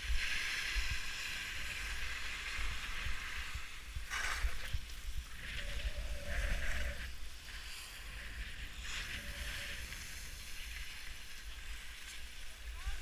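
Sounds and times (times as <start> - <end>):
skis scraping over snow: 0.0 - 13.0
wind rumbling on microphone: 0.0 - 13.0.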